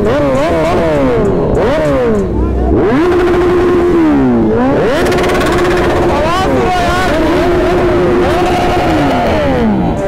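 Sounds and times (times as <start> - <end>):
motorcycles revving: 0.0 - 10.0.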